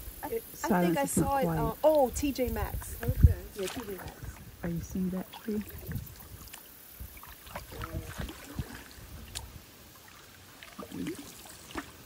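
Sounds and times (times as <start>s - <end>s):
soft paddling in water: 0.3s - 12.0s.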